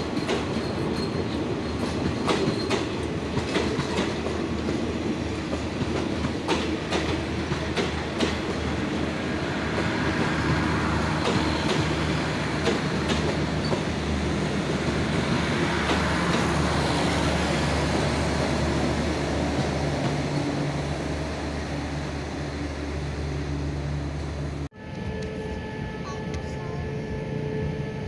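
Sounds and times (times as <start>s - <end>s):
train coaches rumbling past: 0.0s - 28.0s.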